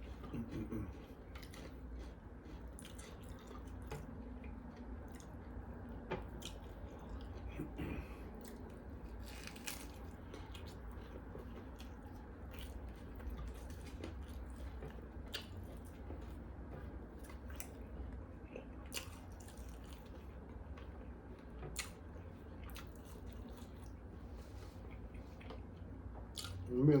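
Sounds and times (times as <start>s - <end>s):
chewing mouth sounds: 0.0s - 20.4s, 21.7s - 25.7s, 26.3s - 26.7s
low steady hum: 0.0s - 27.0s.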